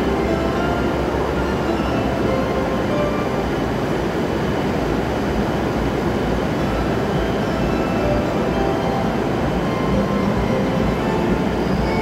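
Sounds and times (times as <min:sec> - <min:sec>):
train rumbling slowly: 0:00.0 - 0:12.0.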